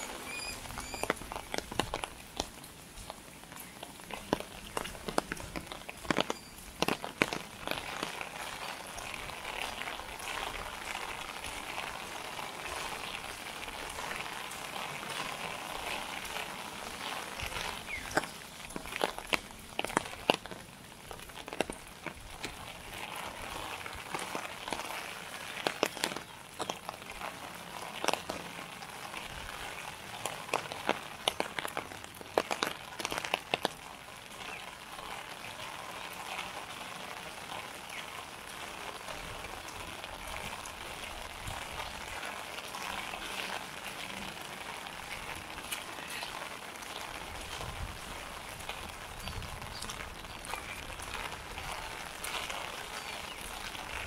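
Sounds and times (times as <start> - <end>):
rain on wet pavement: 0.0 - 54.0.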